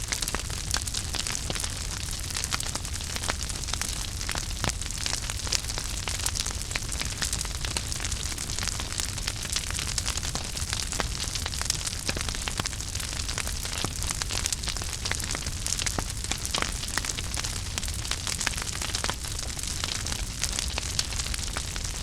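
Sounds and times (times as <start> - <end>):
fire crackling and popping: 0.0 - 22.0
fireplace fire rumble and hiss: 0.0 - 22.0.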